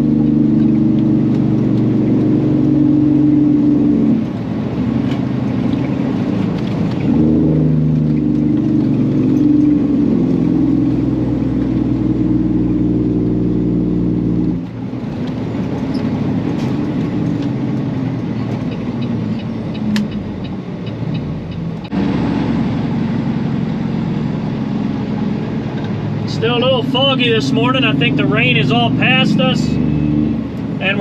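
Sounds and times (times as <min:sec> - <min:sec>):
diesel truck engine running: 0:00.0 - 0:31.0
engine and road noise: 0:00.0 - 0:31.0.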